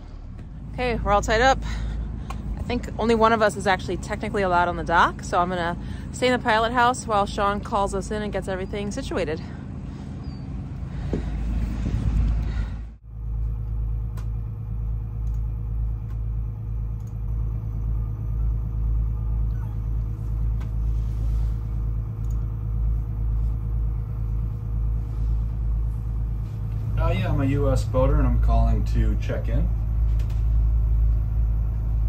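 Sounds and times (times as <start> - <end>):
low machinery drone: 0.0 - 32.0.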